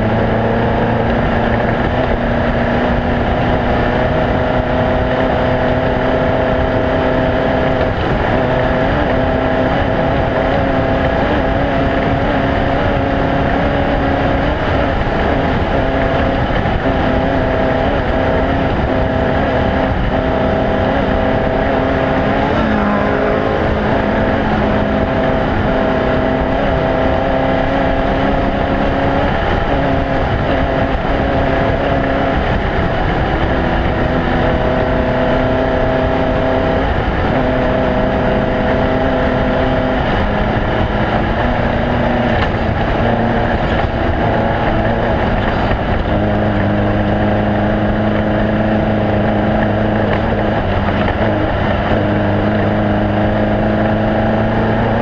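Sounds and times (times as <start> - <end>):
road and wind noise: 0.0 - 55.0
vehicle engine running at speed: 0.0 - 55.0.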